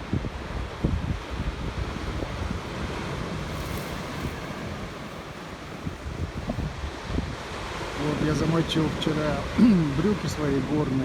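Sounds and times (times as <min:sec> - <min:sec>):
storm surf breaking: 0:00.0 - 0:11.0
wind buffeting microphone: 0:00.0 - 0:11.0.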